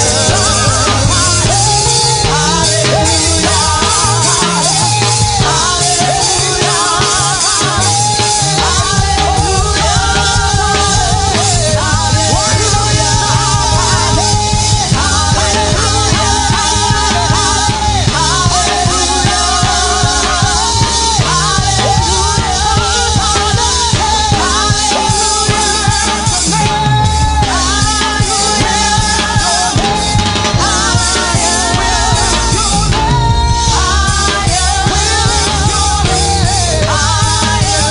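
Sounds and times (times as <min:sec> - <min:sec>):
fast drumming: 0:00.0 - 0:37.9
live gospel band music: 0:00.0 - 0:37.9.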